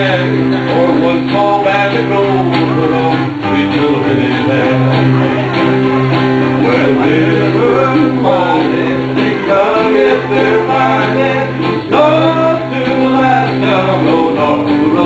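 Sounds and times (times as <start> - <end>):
guitar strumming: 0.0 - 15.0
live country band: 0.0 - 15.0
steady bass line: 0.0 - 15.0.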